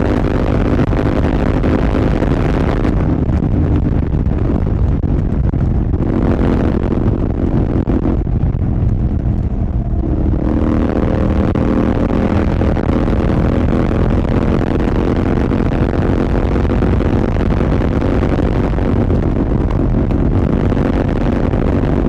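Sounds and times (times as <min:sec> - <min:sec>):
motorcycle engine at road speed: 0:00.0 - 0:22.0.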